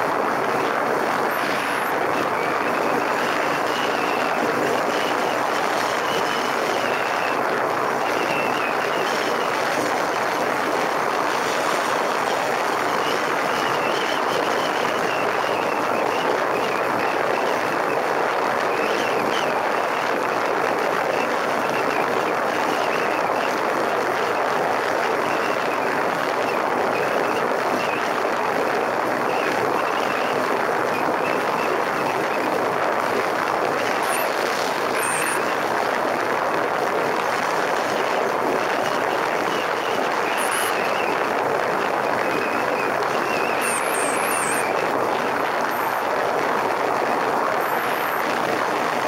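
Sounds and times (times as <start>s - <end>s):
wind rush through helmet: 0.0s - 49.0s.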